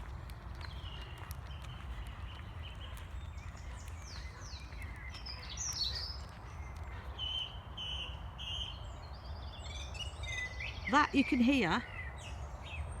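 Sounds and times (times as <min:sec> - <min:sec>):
song thrush singing: 0:00.0 - 0:13.0.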